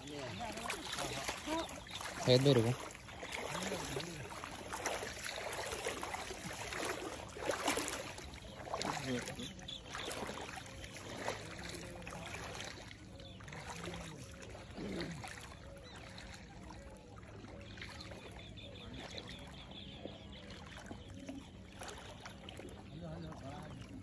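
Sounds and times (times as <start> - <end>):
person wading through water: 0.0 - 24.0.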